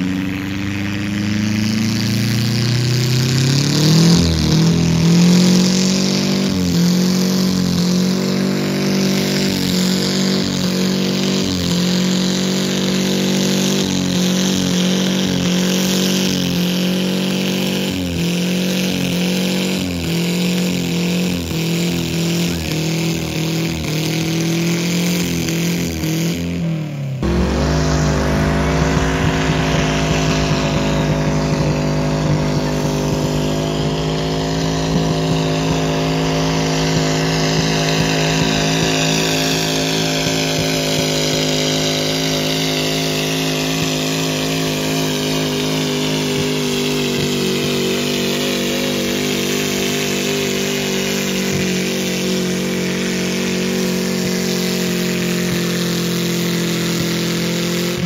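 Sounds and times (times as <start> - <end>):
engine rumbling steadily: 0.0 - 58.0
tractor engine running under load: 0.0 - 58.0.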